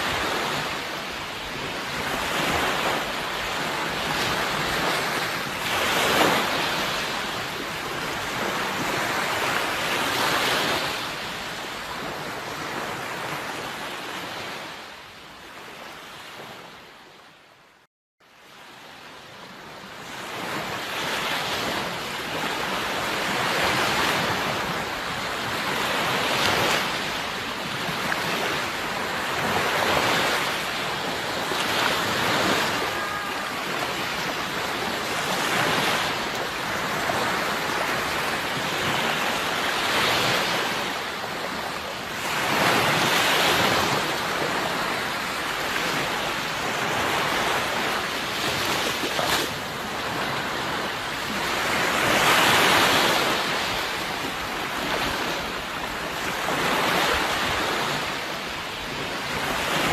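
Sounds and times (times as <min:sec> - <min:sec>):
sea surf washing on shore: 0:00.0 - 0:16.8, 0:18.4 - 0:59.9.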